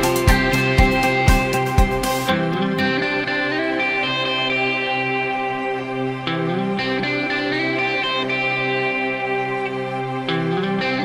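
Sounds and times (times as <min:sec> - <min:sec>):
guitar background music: 0:00.0 - 0:11.0.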